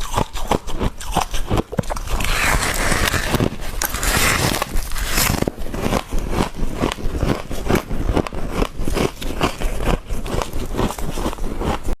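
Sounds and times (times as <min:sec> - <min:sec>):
frost crunching when chewed: 0:00.0 - 0:12.0.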